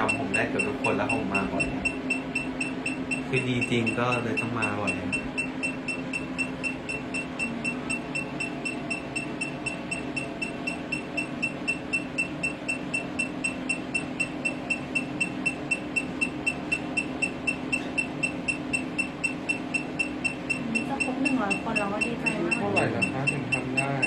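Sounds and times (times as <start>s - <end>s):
machine low hum: 0.0s - 24.0s.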